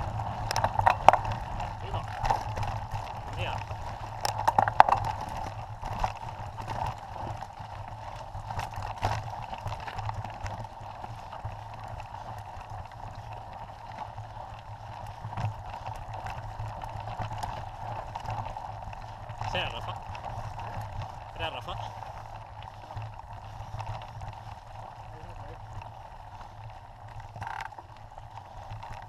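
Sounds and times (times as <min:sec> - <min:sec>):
bike tyres rattling on stones: 0:00.0 - 0:29.0
wheels knocking on rocks: 0:00.0 - 0:29.0.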